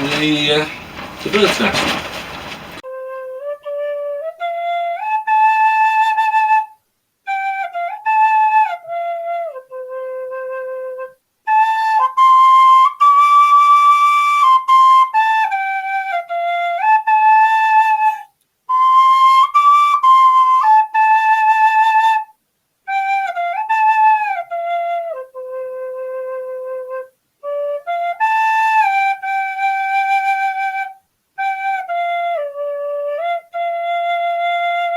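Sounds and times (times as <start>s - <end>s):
solo flute melody: 2.8s - 34.9s.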